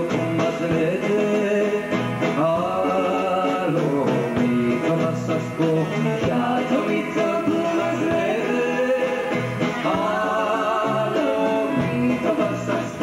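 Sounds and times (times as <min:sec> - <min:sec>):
live instrumental backing: 0:00.0 - 0:13.0
man singing into a microphone: 0:00.0 - 0:13.0.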